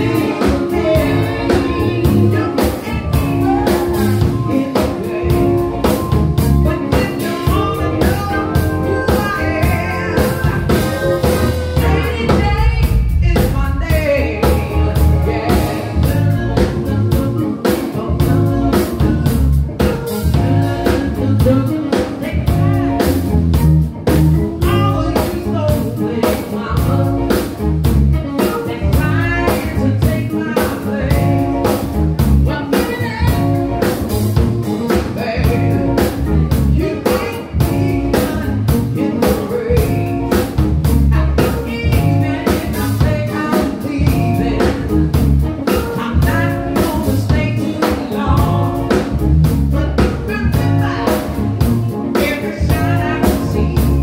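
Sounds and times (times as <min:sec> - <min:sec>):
woman singing: 0:00.0 - 0:23.4, 0:24.4 - 0:27.6, 0:28.2 - 0:31.8, 0:32.4 - 0:34.1, 0:34.7 - 0:54.0
live blues band playing: 0:00.0 - 0:54.0.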